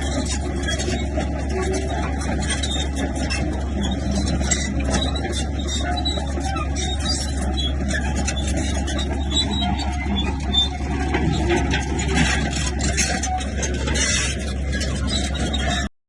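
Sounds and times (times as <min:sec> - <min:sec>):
diesel machinery engine hum: 0:00.0 - 0:15.9
rattling knocks and clanks: 0:00.0 - 0:15.9.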